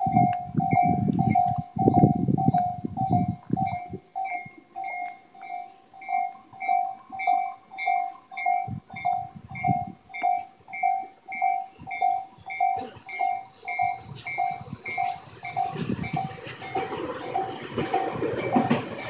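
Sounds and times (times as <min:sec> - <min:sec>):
approaching train whine: 0:00.0 - 0:19.0
level-crossing warning bell ringing: 0:00.0 - 0:19.0.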